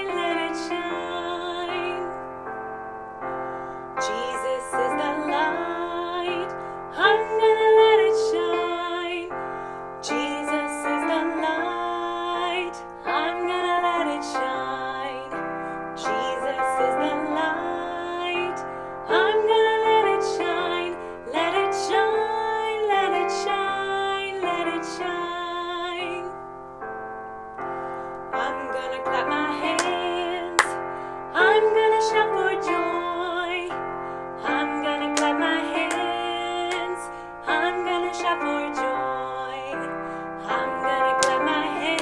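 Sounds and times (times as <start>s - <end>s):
woman singing with vibrato: 0.0s - 2.2s, 4.0s - 9.4s, 10.0s - 15.4s, 16.0s - 26.4s, 28.4s - 33.8s, 34.4s - 42.0s
piano chords: 0.0s - 42.0s.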